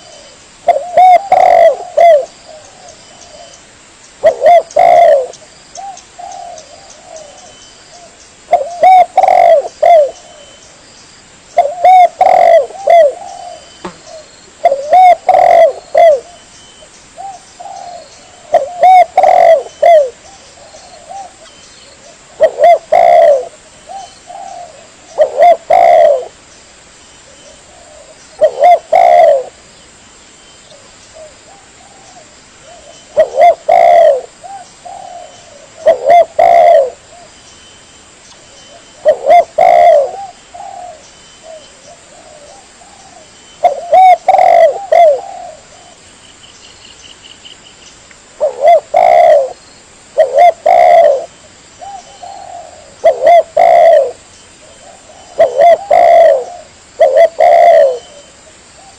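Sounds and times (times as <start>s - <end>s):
dove cooing: 0.0s - 3.6s, 4.2s - 10.6s, 11.5s - 16.5s, 17.2s - 26.4s, 27.4s - 29.6s, 30.7s - 37.3s, 38.7s - 46.0s, 48.4s - 49.6s, 50.2s - 58.9s.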